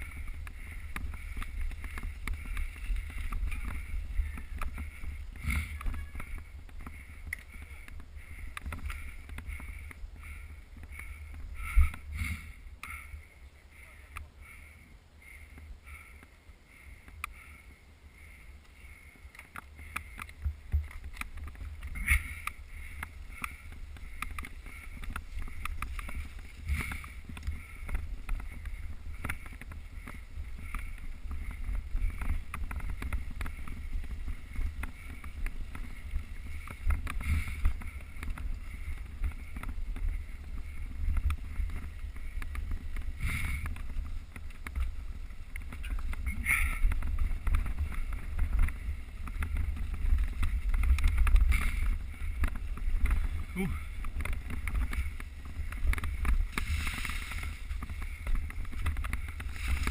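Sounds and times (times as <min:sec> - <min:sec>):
bike clicks and knocks: 0:00.0 - 0:13.0, 0:19.2 - 0:59.9
tyre and trail noise: 0:00.0 - 0:59.9
wind rumble on microphone: 0:00.0 - 0:59.9.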